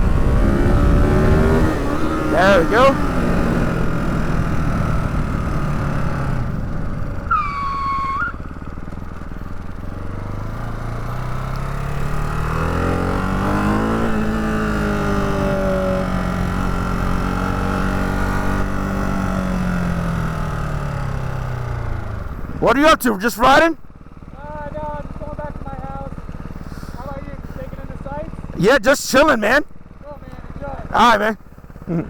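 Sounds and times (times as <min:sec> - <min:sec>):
motorcycle engine running: 0:00.0 - 0:22.6, 0:23.7 - 0:28.6, 0:29.6 - 0:32.0.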